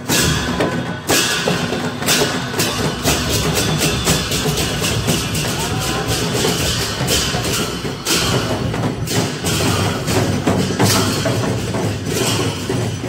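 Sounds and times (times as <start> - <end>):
loud dense drumming: 0.0 - 13.0.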